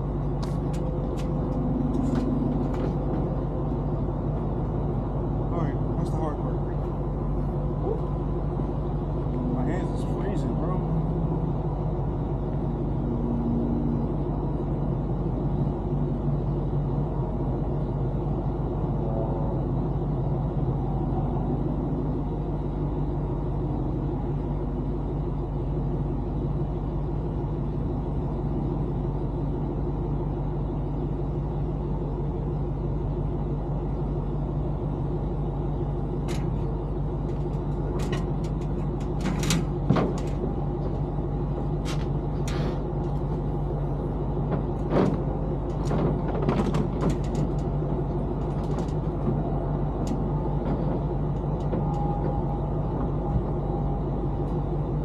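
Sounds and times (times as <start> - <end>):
motor vehicle engine rumble: 0.0 - 55.0.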